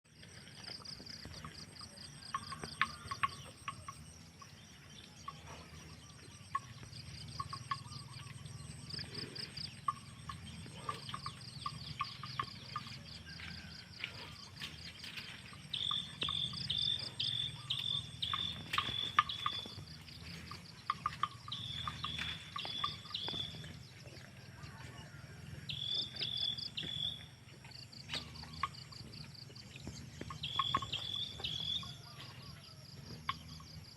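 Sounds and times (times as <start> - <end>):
insects trilling: 0.1 - 33.9
low steady rumble: 0.1 - 33.9.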